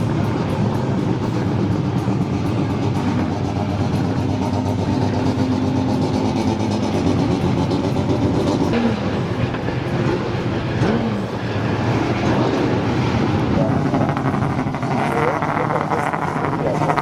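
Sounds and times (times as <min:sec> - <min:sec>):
cars passing by: 0:00.0 - 0:17.0
racing car engines droning: 0:00.0 - 0:17.0.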